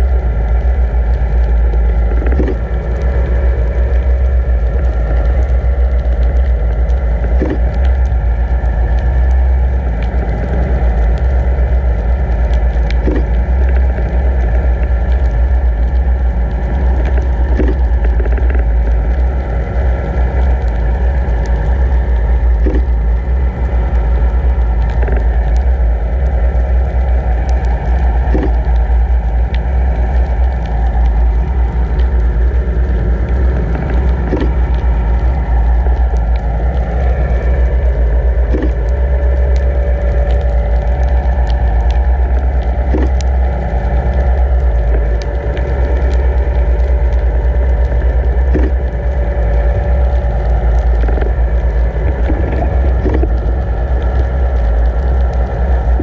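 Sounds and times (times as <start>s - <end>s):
sharp clicks and crackles: 0.0s - 56.0s
underwater boat motor hum: 0.0s - 56.0s.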